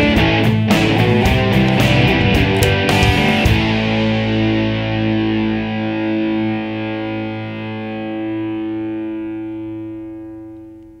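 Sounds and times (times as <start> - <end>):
sustained guitar chord: 0.0 - 11.0.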